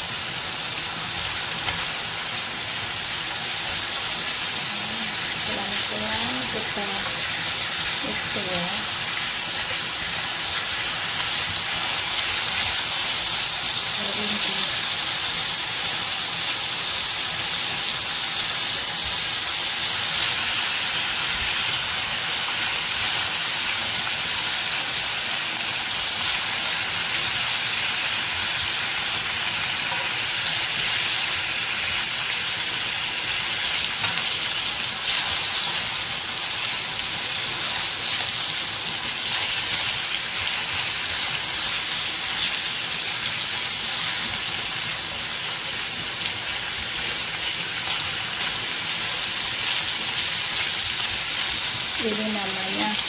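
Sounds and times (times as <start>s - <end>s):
meat sizzling in hot oil: 0.0s - 53.0s.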